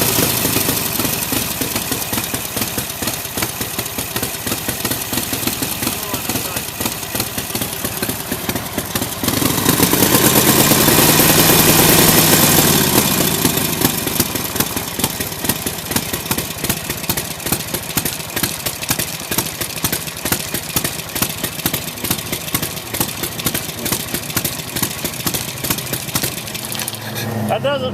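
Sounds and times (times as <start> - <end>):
motorcycle engine revving and idling: 0.0 - 27.9.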